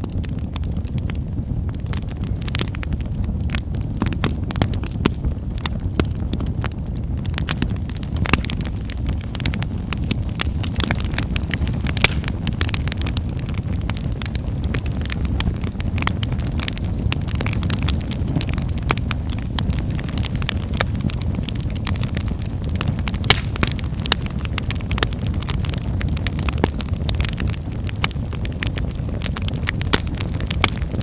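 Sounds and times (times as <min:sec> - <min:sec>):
burning wood crackling: 0:00.0 - 0:31.0
low rumble of flames: 0:00.0 - 0:31.0.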